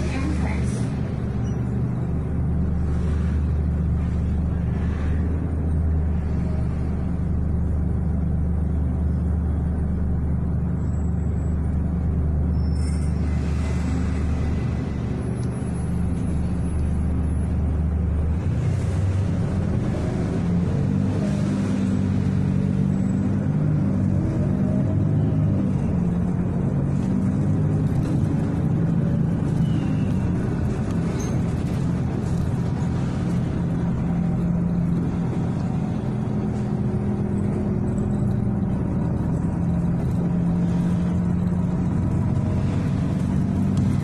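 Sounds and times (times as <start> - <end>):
bus engine humming: 0.0 - 44.0.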